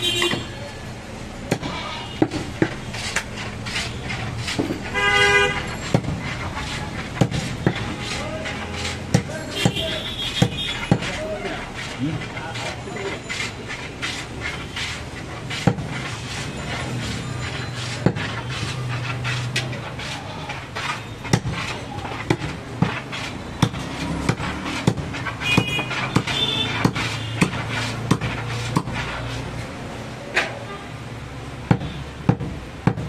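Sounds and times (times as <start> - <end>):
knife chopping meat and bone: 1.4 - 29.5, 31.6 - 33.0.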